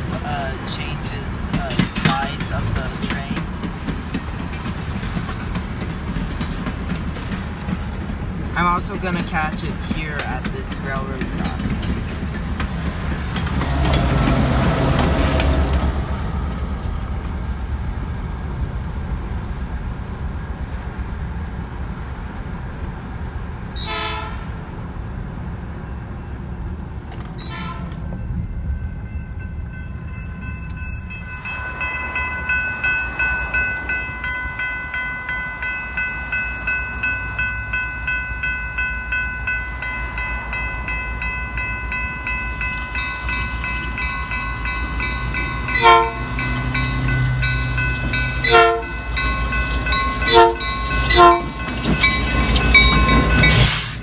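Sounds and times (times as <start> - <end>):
railroad crossing bell ringing: 0.0 - 17.0, 27.4 - 54.0
car road noise and rumble: 0.0 - 54.0.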